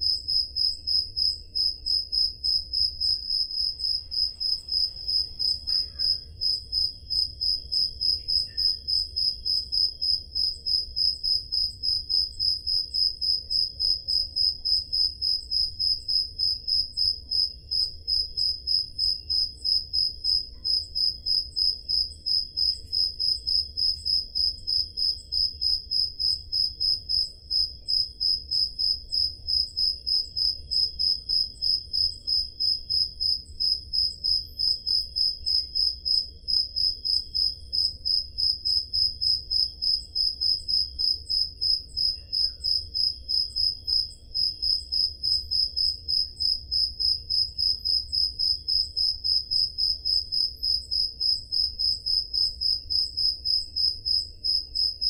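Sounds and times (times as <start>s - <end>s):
faint lower crickets chirping: 0.0s - 55.0s
loud cricket chirping: 0.0s - 55.0s.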